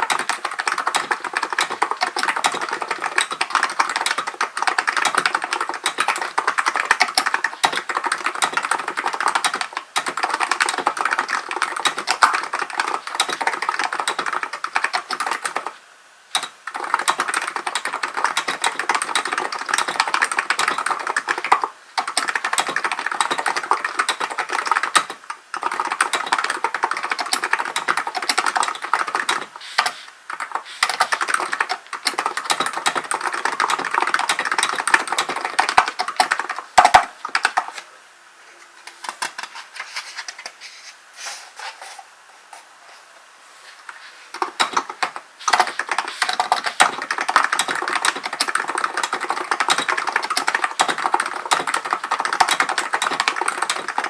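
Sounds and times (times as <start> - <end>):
keyboard typing: 0.0 - 15.8, 16.4 - 37.9, 44.3 - 54.0.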